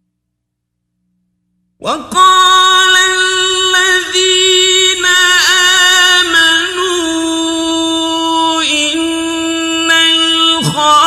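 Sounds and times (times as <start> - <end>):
man reciting melodically: 1.8 - 11.0.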